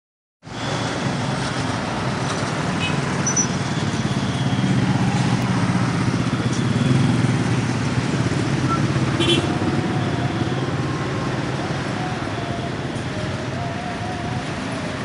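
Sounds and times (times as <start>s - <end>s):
road traffic passing: 0.4s - 15.0s.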